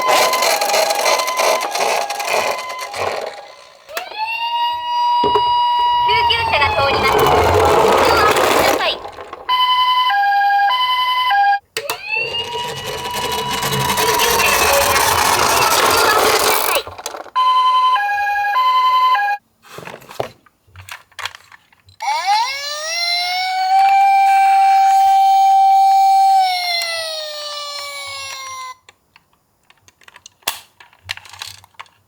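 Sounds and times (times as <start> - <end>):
toy ambulance siren: 0.0 - 19.4, 22.0 - 28.9.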